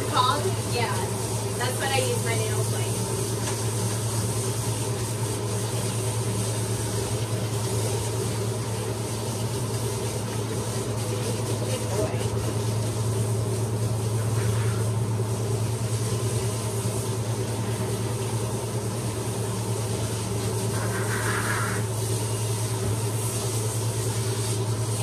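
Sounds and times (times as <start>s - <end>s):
pump humming: 0.0s - 25.0s
water spraying from hose nozzle: 0.0s - 25.0s.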